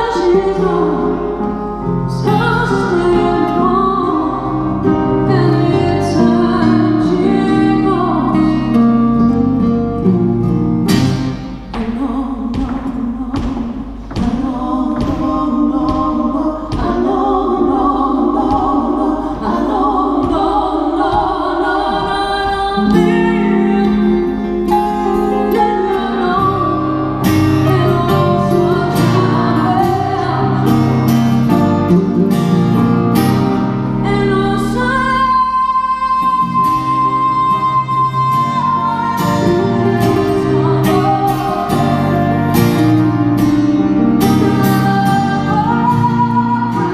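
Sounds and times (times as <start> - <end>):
person singing: 0.0 - 9.8, 11.6 - 46.9
strummed and plucked guitar: 0.0 - 12.8, 21.0 - 46.9.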